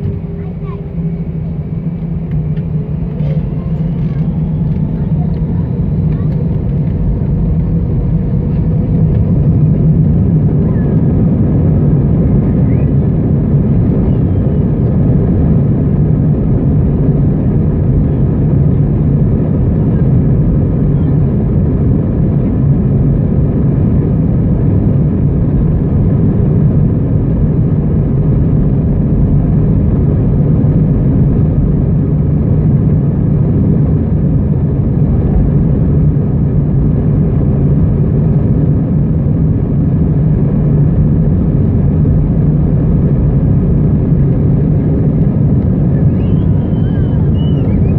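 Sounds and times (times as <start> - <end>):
aircraft cabin engine rumble: 0.0 - 47.9.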